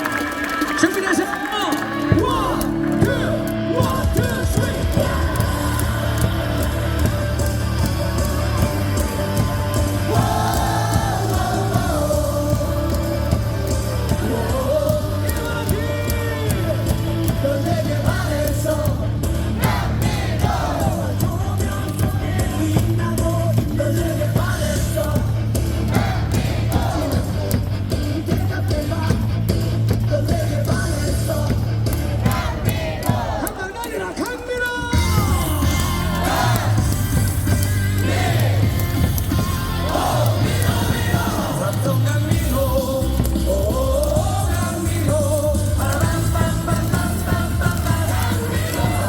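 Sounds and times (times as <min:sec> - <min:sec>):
cheer music with steady beat: 0:00.0 - 0:49.0
crowd singing and shouting: 0:00.0 - 0:49.0.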